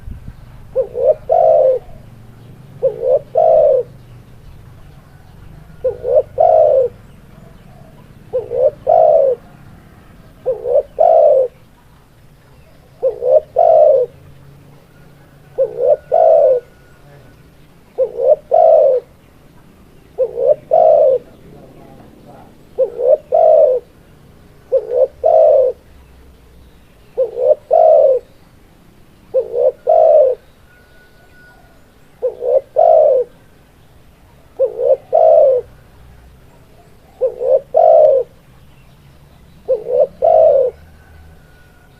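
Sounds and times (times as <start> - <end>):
dove cooing: 0.6 - 26.2, 27.0 - 28.4, 29.2 - 38.7, 39.6 - 41.9.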